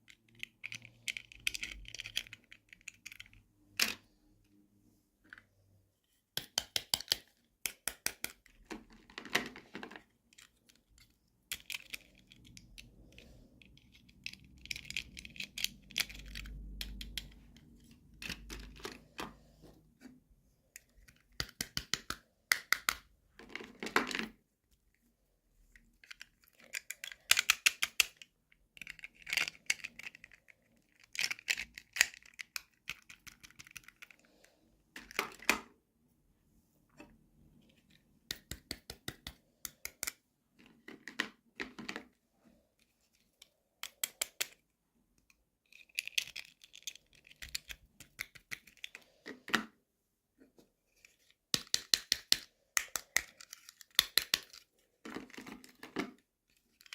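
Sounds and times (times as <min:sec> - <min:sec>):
packaging clicks and taps: 0:00.0 - 0:04.1, 0:06.3 - 0:19.4, 0:20.7 - 0:24.4, 0:26.0 - 0:35.7, 0:37.8 - 0:42.1, 0:43.2 - 0:44.6, 0:45.2 - 0:49.7, 0:51.5 - 0:56.9.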